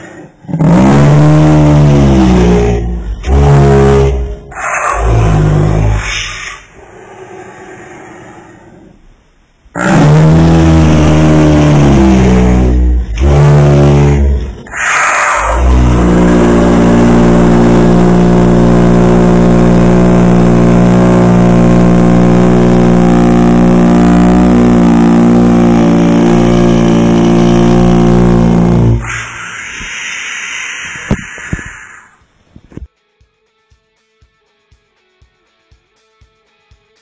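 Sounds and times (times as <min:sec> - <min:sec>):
loud machine drone: 0:00.0 - 0:08.4, 0:09.7 - 0:32.1.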